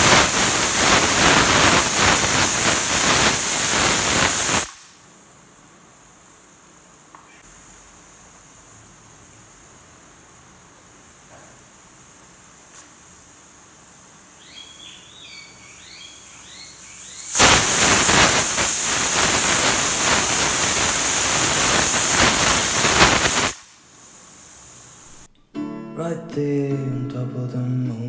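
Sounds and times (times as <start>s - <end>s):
pressure cooker steam hiss: 0.0s - 25.3s.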